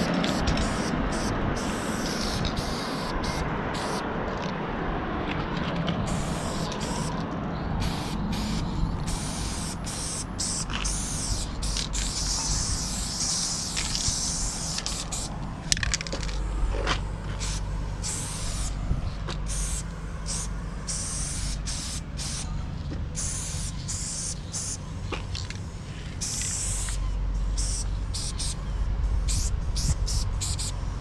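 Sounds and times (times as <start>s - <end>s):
spray paint can hissing: 0.0s - 4.0s, 6.1s - 7.2s, 7.8s - 18.8s, 19.4s - 22.5s, 23.2s - 28.6s, 29.2s - 30.8s.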